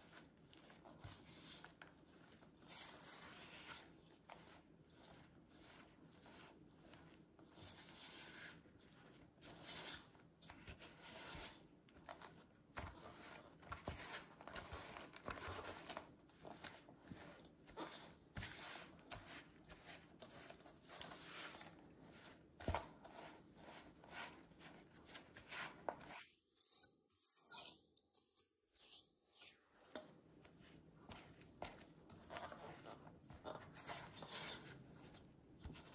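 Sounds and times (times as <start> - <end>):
spatula stirring sticky dough: 0.0 - 35.9.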